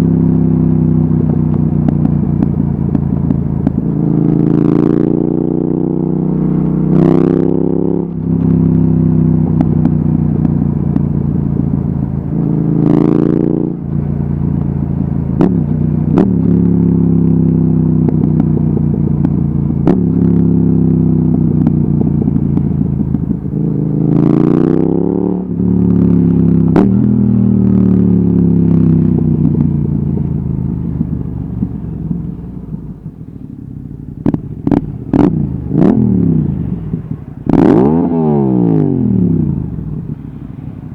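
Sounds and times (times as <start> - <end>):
exhaust cracks: 0.0 - 40.9
motorcycle engine revving: 0.0 - 40.9.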